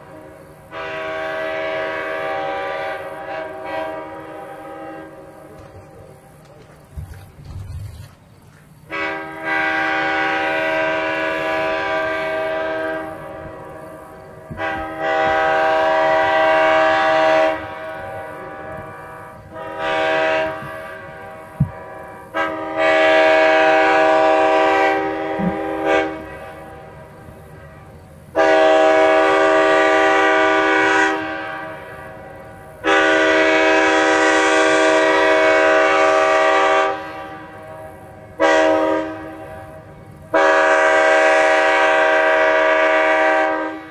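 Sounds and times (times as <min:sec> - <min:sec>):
locomotive air horn blasts: 0:00.0 - 0:06.0, 0:08.9 - 0:43.9.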